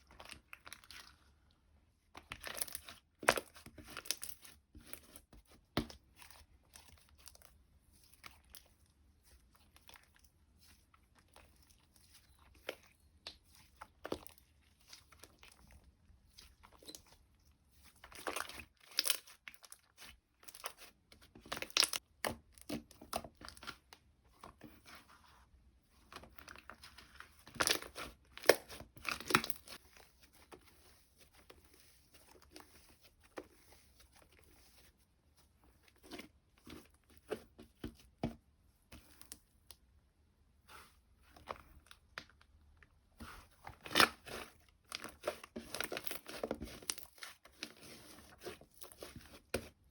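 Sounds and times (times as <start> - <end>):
slime squishing and crackling: 0.0 - 1.4, 2.1 - 23.9, 26.1 - 34.9, 41.3 - 49.9.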